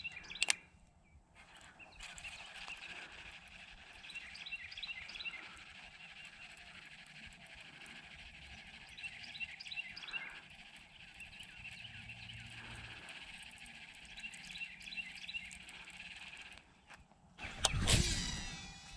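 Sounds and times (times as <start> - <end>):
bird chirping: 0.0 - 18.9
faint outdoor background: 0.0 - 18.9.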